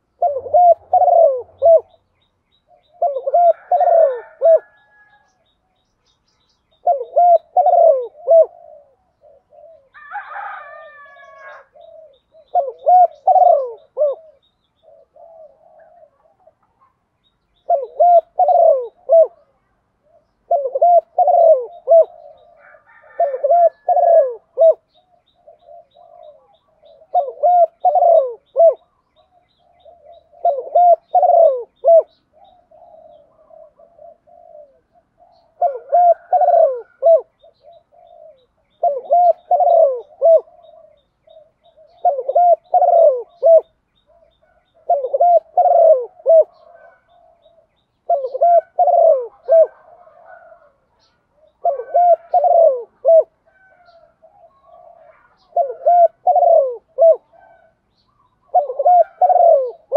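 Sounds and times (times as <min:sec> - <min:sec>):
dove cooing: 0:00.0 - 0:05.6, 0:06.2 - 0:59.9.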